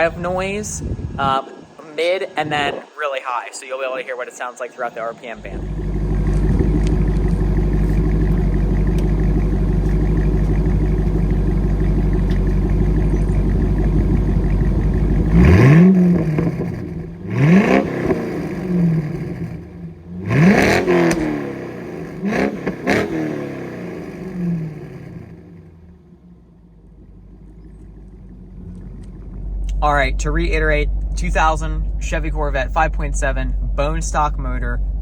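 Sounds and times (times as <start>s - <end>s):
car engine idling and revving: 5.4s - 35.0s.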